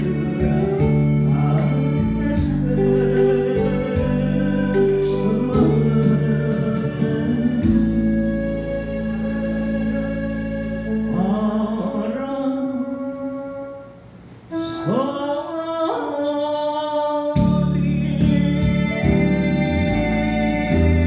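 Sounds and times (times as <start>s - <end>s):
guitar and organ backing: 0.0s - 13.4s, 17.4s - 21.0s
full band with bass: 0.0s - 13.6s, 17.4s - 21.0s
person singing ballad: 0.0s - 21.0s.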